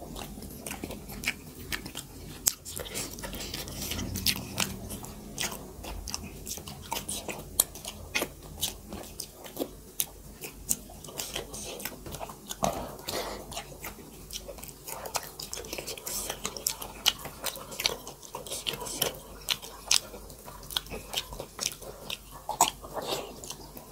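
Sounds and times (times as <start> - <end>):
wet chewing and lip smacking: 0.0 - 23.9.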